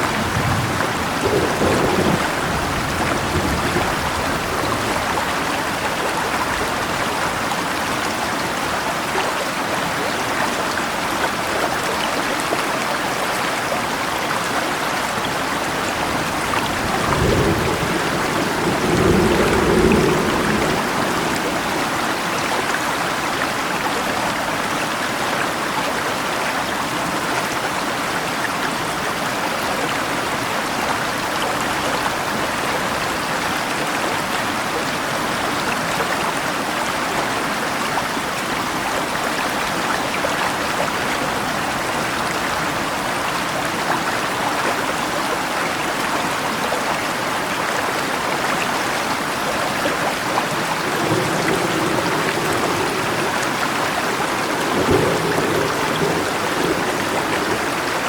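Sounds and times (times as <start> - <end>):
rain falling: 0.0 - 58.0
river flowing: 0.0 - 58.0.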